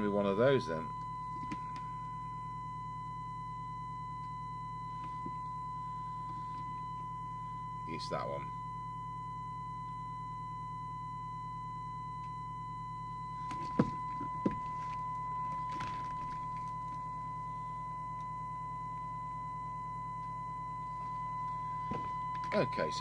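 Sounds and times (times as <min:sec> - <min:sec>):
low steady hum: 0:00.0 - 0:23.0
steady test tone from loudspeaker: 0:00.0 - 0:23.0.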